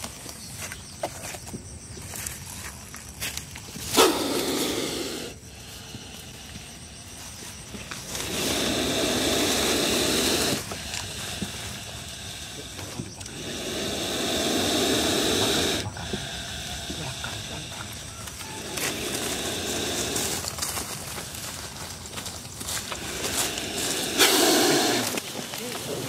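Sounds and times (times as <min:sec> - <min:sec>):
cobra hissing: 0:03.6 - 0:26.0.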